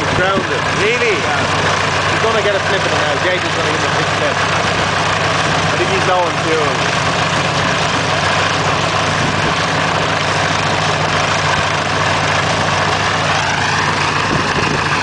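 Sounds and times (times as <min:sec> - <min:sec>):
aero engine idling: 0:00.0 - 0:15.0.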